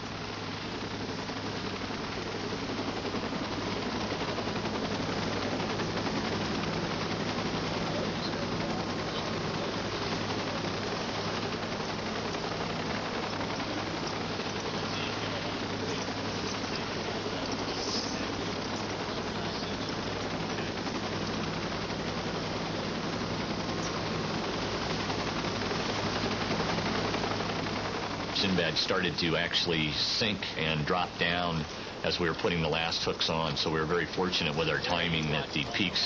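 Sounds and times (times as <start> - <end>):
helicopter rotor and engine: 0.0 - 36.0.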